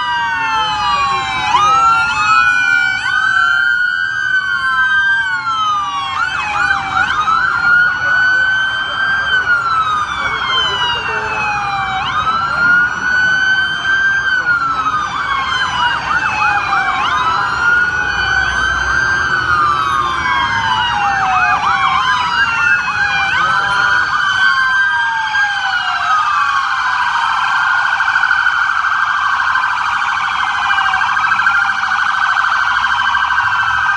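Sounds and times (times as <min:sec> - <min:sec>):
siren fast warbling yelp: 0:00.0 - 0:33.9
sirens wailing: 0:00.0 - 0:33.9.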